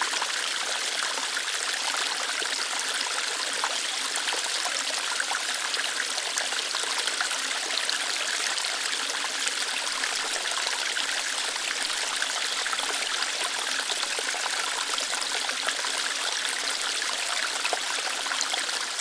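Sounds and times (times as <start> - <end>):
small waterfall splashing over rocks: 0.0 - 19.0.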